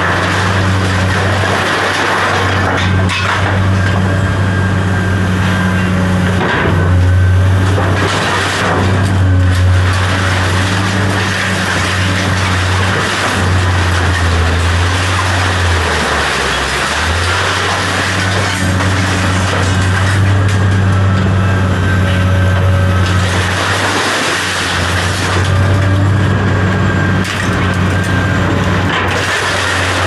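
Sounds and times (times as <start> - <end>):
heavy machine engine running: 0.0 - 30.0.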